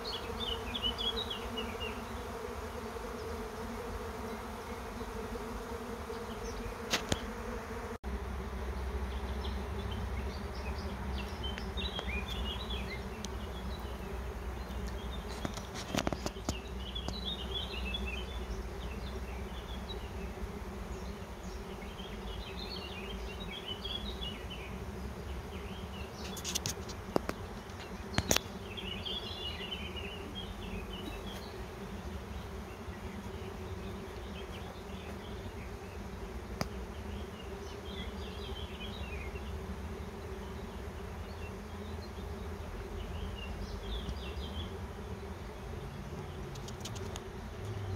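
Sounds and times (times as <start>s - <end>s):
bees buzzing in a drone: 0.0s - 47.9s.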